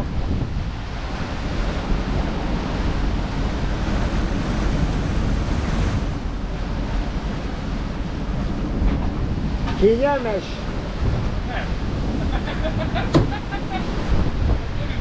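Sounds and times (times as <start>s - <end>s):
strong wind buffeting microphone: 0.0s - 15.0s
waves rushing along a boat hull: 0.0s - 15.0s.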